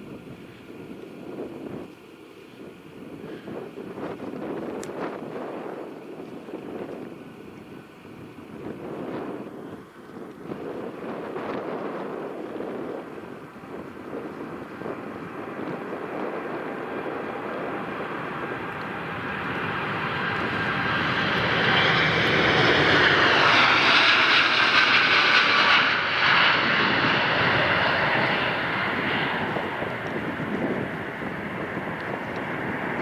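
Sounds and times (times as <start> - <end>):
jet airliner engines passing: 0.0 - 33.0.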